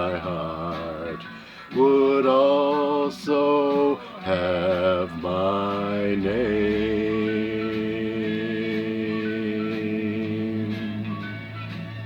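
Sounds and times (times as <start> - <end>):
man singing a ballad: 0.0 - 11.2
backing music: 0.0 - 12.0.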